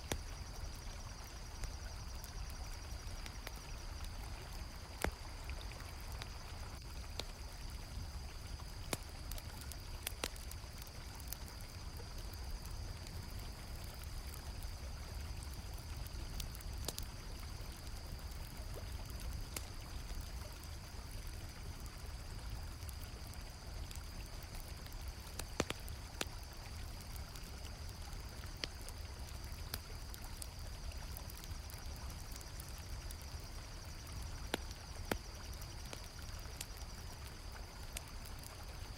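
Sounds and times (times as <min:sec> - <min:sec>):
campfire crackling: 0:00.0 - 0:38.9
crickets chirring: 0:00.0 - 0:38.9.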